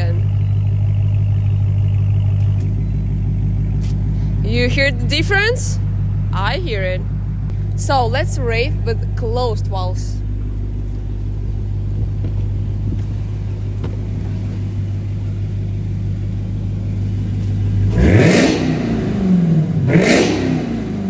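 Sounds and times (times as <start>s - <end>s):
car engine idling: 0.0s - 21.0s
engine revving: 0.0s - 21.0s.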